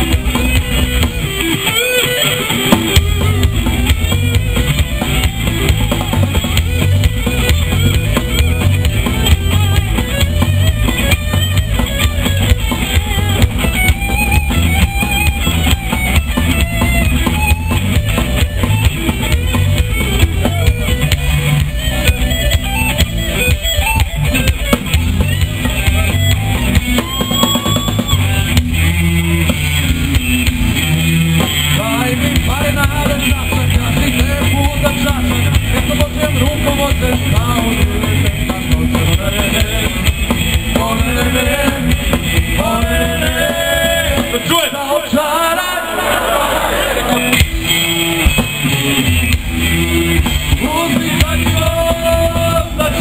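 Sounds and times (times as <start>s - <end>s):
drum kit with bass drum: 0.0s - 44.8s, 46.8s - 53.0s
electric guitar: 0.0s - 53.0s.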